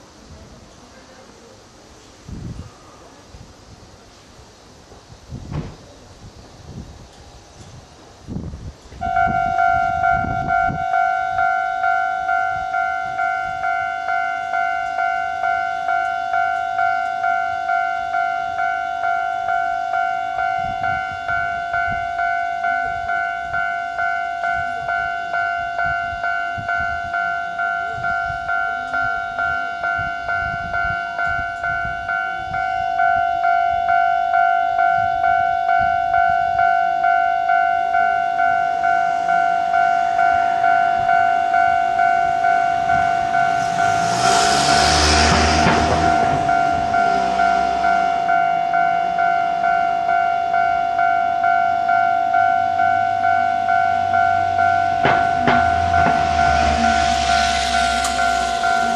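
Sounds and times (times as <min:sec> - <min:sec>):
diesel railcar engine: 0:00.0 - 0:58.9
level-crossing warning bell: 0:09.0 - 0:58.9.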